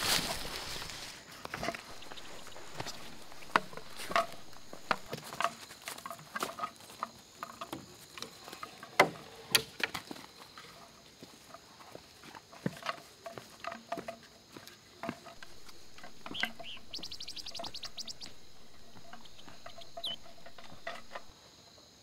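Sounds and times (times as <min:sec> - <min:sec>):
footsteps on dirt and leaves: 0:00.0 - 0:08.4, 0:10.0 - 0:21.3.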